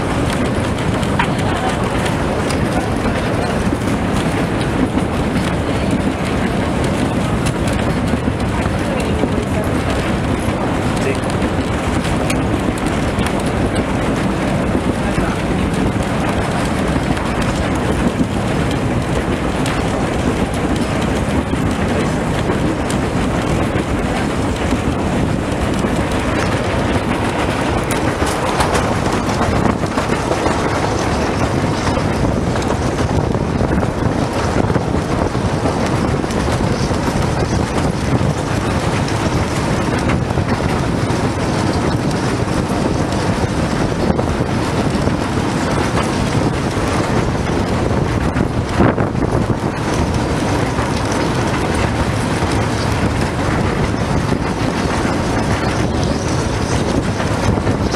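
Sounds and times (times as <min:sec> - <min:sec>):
train wheels rumbling on rails: 0:00.0 - 0:57.9
wind on microphone: 0:00.0 - 0:57.9.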